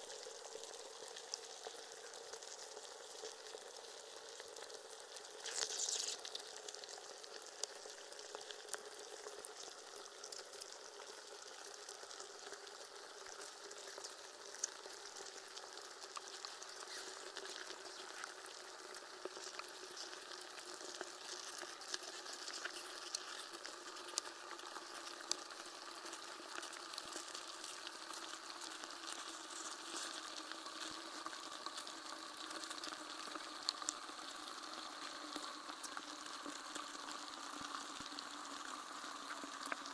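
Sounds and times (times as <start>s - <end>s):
crackling static hiss: 0.0s - 39.9s.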